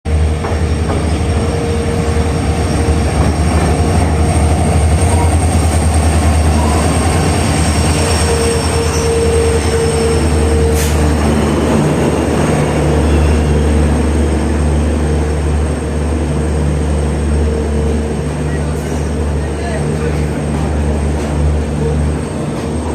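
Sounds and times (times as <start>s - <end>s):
diesel locomotive engine running: 0.1s - 22.9s.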